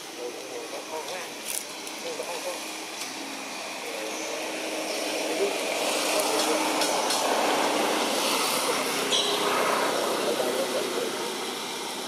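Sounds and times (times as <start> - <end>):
passing motor traffic: 0.0 - 12.0.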